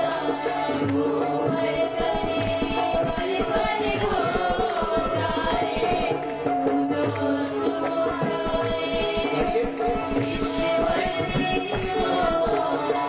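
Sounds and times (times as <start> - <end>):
electronic keyboard: 0.0 - 13.0
hand percussion rhythm: 0.0 - 13.0
harmonium playing chords: 1.1 - 13.0.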